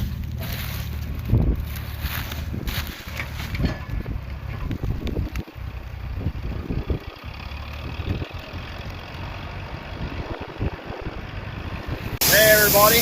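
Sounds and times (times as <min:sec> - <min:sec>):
combine harvester engine hum: 0:00.0 - 0:13.0.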